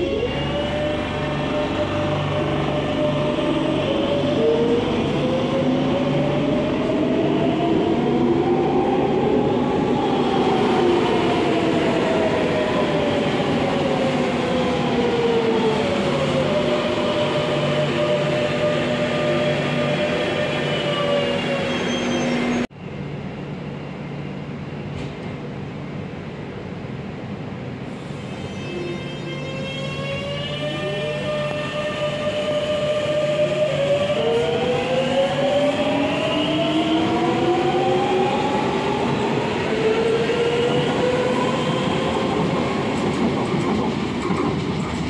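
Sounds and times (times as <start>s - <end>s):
rail running noise: 0.0s - 45.0s.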